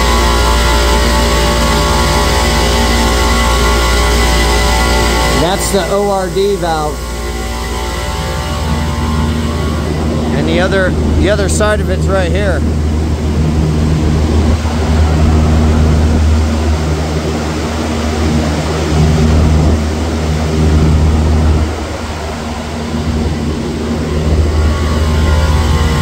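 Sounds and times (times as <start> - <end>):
low machine drone: 0.0 - 26.0.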